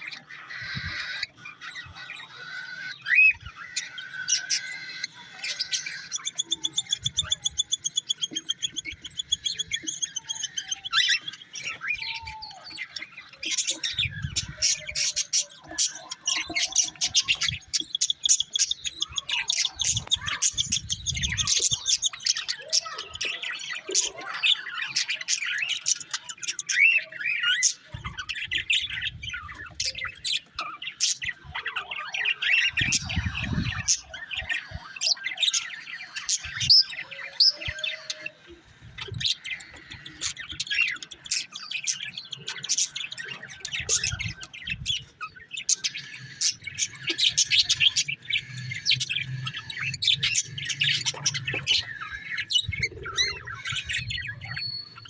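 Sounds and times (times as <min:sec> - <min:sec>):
pet birds chirping and squawking: 0:00.0 - 0:55.0.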